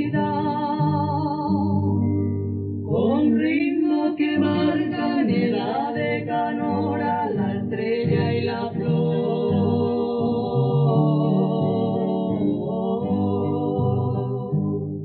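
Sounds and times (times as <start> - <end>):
woman singing with vibrato: 0.0 - 2.0, 2.9 - 14.6.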